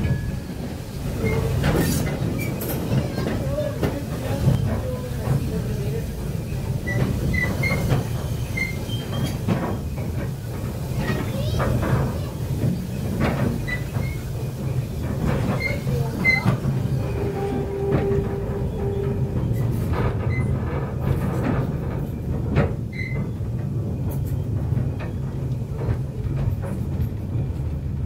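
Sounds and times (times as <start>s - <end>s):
train rumbling: 0.0s - 28.0s
wheels clicking over rail joints: 0.0s - 28.0s.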